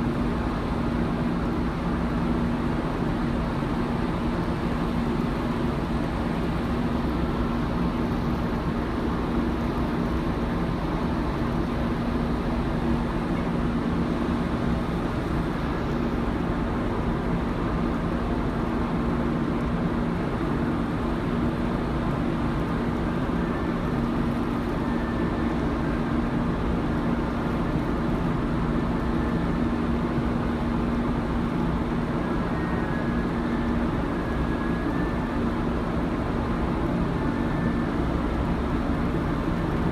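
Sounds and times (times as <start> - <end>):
ship engines and ventilation hum: 0.0 - 39.9.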